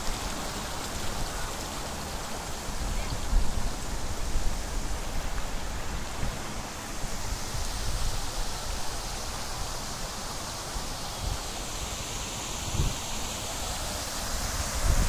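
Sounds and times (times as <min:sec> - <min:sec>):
fountain water rushing: 0:00.0 - 0:15.0.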